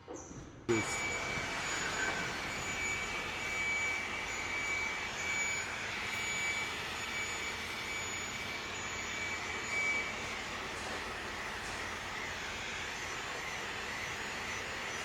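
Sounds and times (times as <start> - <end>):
high-pitched machine whine: 0.7 - 15.0.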